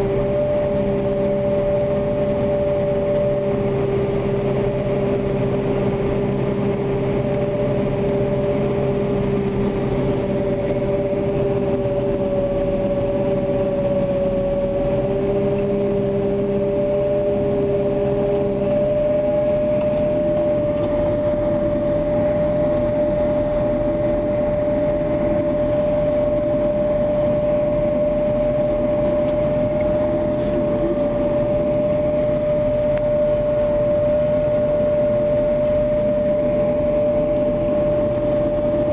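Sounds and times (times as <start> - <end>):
harvest machinery whining: 0.0 - 38.9
low engine hum: 0.0 - 38.9.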